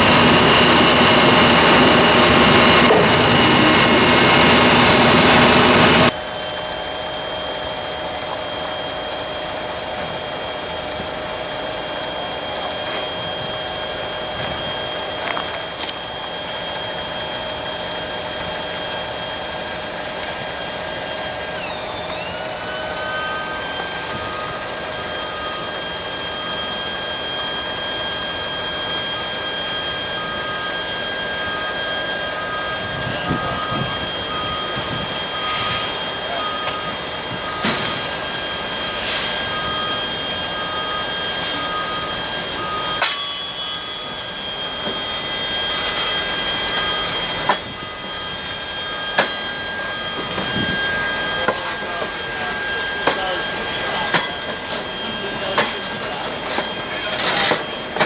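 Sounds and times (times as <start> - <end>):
train wheels squealing on track: 0.0 - 58.0.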